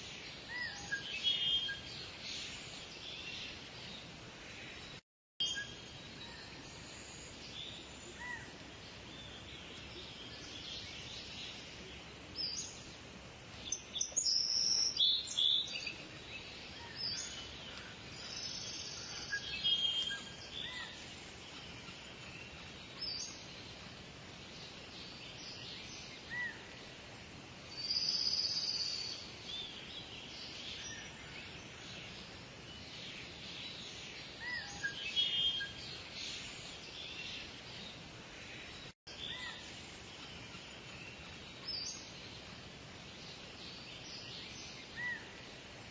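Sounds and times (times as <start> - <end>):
background hiss: 0.0 - 45.9
birds chirping and trilling: 0.0 - 45.9.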